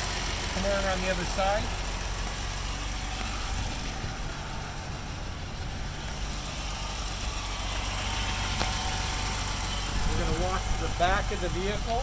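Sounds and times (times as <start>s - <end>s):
car engine idling smoothly: 0.0s - 12.0s.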